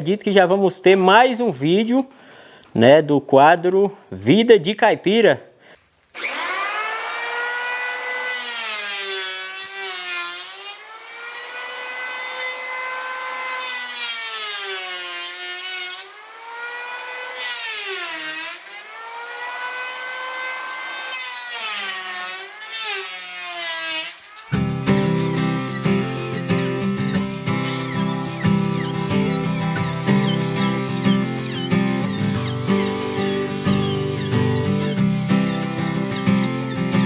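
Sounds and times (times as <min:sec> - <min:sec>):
electric hand planer shaving wood: 0:06.2 - 0:37.0.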